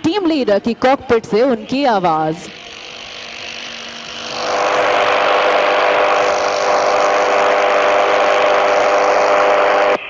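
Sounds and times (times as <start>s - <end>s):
jet engine noise with whining: 0.0s - 10.0s.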